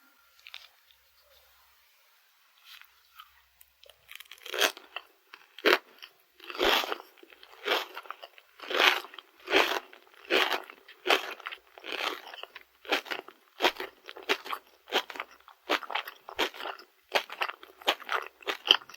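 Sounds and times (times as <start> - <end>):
biting and chewing crunchy snack: 0.4 - 1.0, 2.8 - 18.9.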